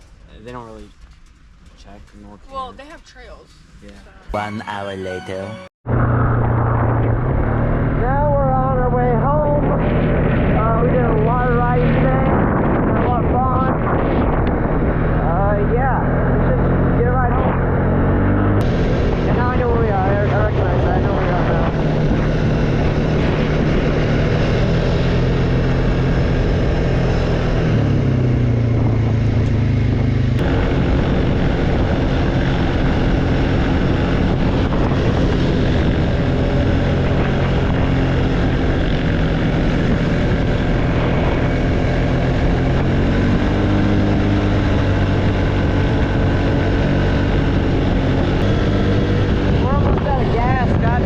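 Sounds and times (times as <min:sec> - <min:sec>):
atv engine running: 0:05.9 - 0:51.0.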